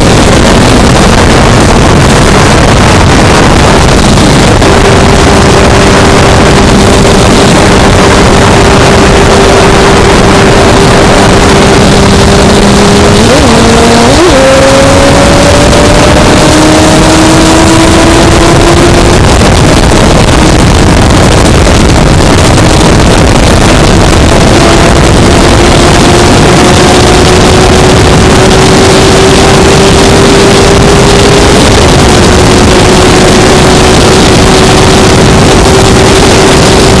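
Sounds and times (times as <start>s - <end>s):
motorcycle engine at speed: 0.0s - 37.0s
wind rush on microphone: 0.0s - 37.0s.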